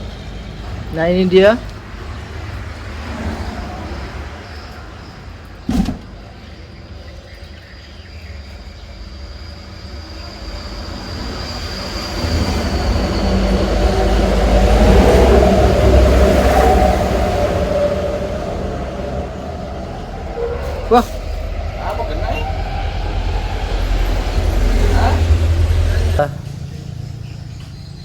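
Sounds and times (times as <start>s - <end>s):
vehicle engine rumble passing: 0.0s - 28.0s.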